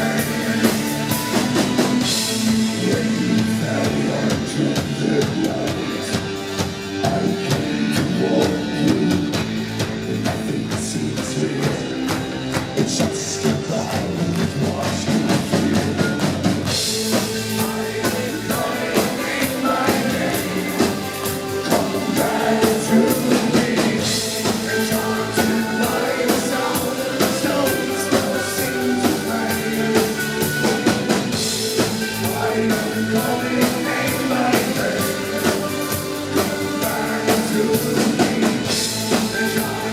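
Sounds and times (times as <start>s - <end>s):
live electronic rock band: 0.0s - 39.9s.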